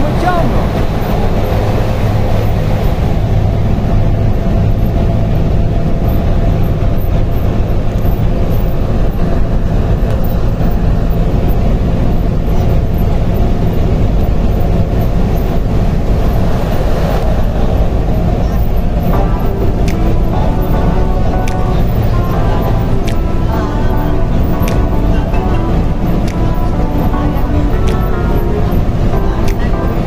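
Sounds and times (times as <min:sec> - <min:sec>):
bus engine and road drone: 0:00.0 - 0:30.0.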